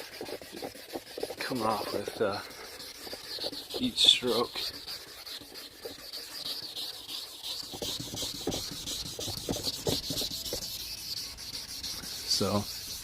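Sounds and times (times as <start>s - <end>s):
sanding pad scratching plastic: 0.0s - 13.0s.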